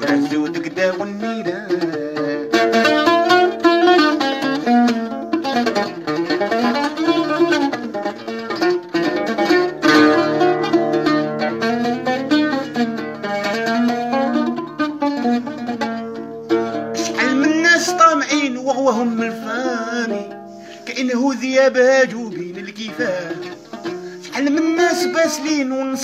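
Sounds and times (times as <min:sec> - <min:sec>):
long-necked lute melody: 0:00.0 - 0:26.0.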